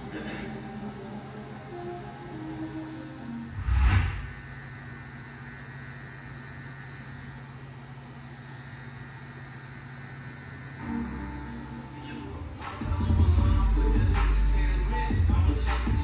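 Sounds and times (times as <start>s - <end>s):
tattoo machine buzzing: 0.0s - 16.0s.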